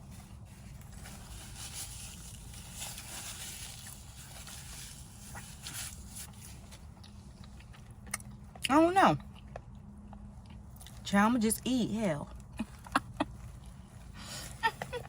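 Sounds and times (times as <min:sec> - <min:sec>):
low steady hum: 0:00.0 - 0:15.0
soft chewing: 0:00.1 - 0:11.1, 0:12.2 - 0:15.0.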